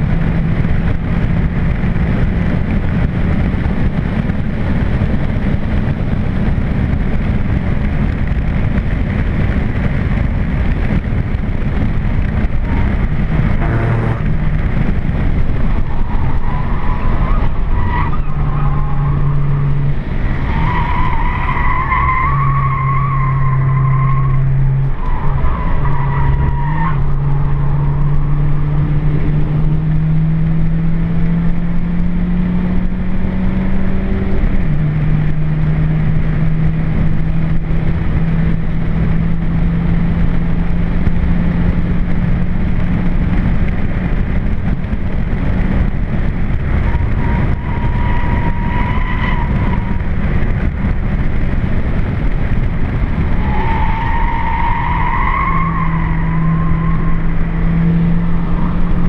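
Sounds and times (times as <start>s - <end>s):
car engine droning: 0.0s - 59.0s
wind noise: 0.0s - 59.0s.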